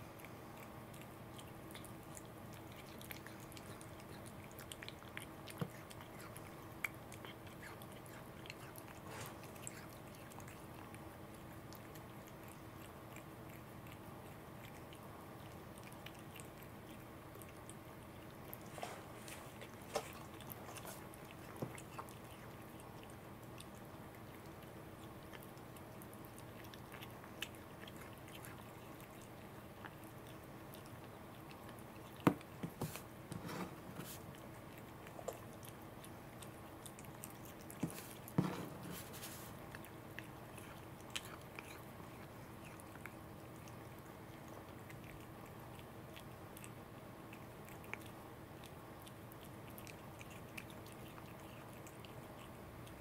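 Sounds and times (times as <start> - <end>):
cat chewing: 0.0 - 53.0.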